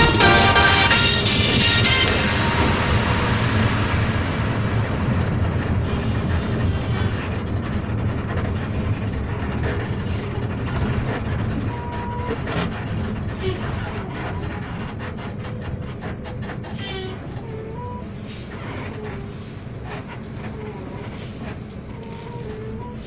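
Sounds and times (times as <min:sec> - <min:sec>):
engine and road rumble in cabin: 0:00.0 - 0:23.0.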